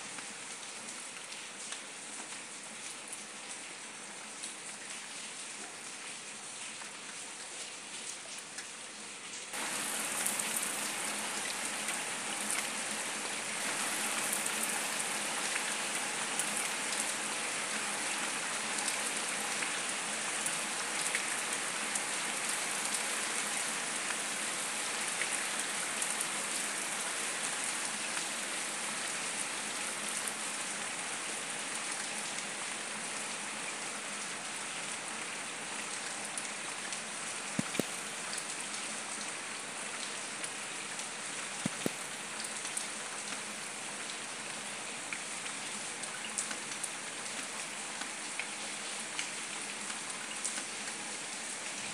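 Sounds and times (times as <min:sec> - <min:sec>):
heavy rain on paving and leaves: 0:00.1 - 0:51.9.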